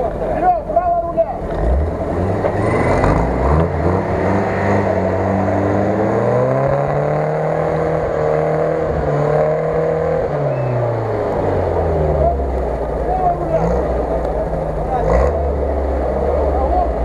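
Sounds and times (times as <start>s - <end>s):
off-road engine revving hard: 0.0s - 17.0s
truck churning in mud: 0.0s - 17.0s.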